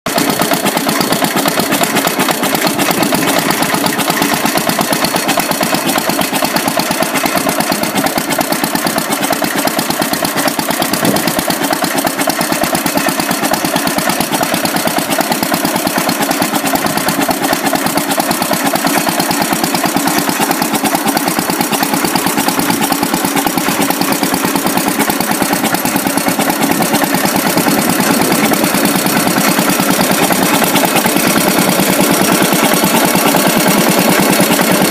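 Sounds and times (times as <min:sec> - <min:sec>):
hit-and-miss engine running: 0:00.1 - 0:34.9
rock crusher clattering: 0:00.1 - 0:34.9.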